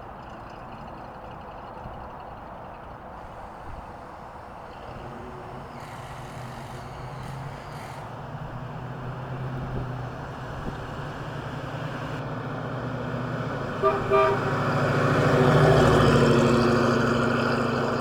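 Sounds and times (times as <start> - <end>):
pickup truck engine running: 0.0 - 18.0.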